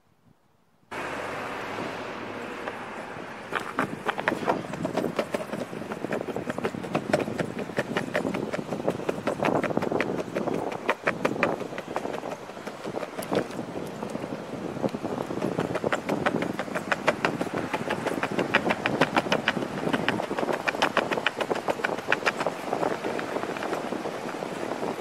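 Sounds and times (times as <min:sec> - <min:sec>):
skateboard wheels rolling on concrete: 0:00.9 - 0:25.0
skateboard clicks and clacks: 0:03.4 - 0:25.0.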